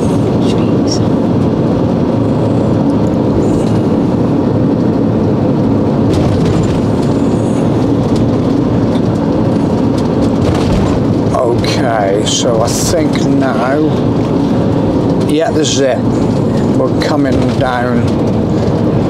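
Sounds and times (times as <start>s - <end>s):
vehicle engine and tyres rumbling: 0.0s - 19.0s.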